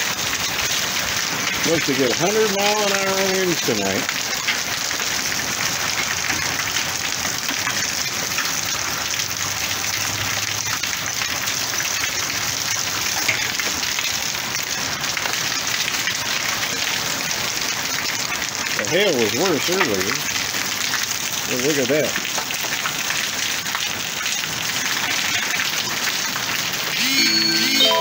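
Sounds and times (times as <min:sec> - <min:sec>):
heavy rain on cars and driveway: 0:00.0 - 0:28.0.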